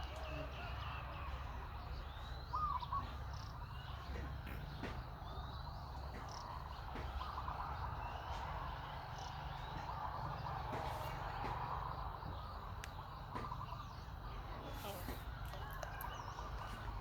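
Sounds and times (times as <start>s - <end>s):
faint gliding whistles: 0.0s - 17.0s.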